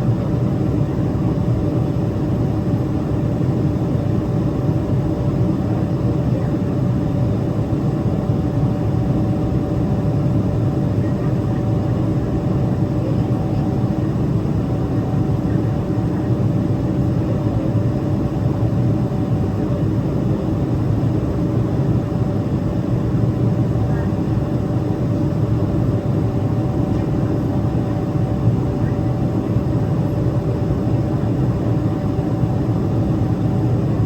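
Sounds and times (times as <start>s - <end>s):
jet engine cabin drone: 0.0s - 34.0s.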